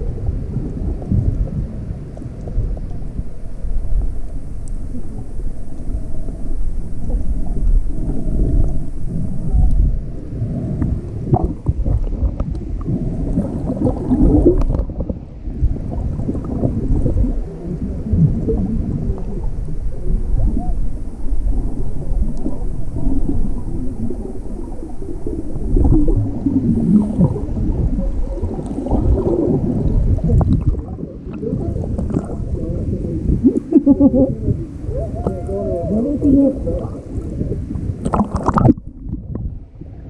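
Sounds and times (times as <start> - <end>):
bubbling and crackles from swimmers: 0.0 - 40.0
muffled underwater water rumble: 0.0 - 40.0.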